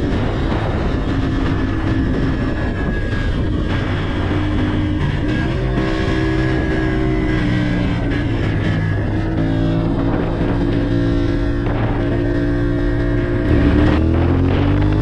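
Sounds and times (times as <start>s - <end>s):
background music: 0.0s - 15.0s
motorcycle running: 0.0s - 15.0s
wind rushing over microphone: 0.0s - 15.0s.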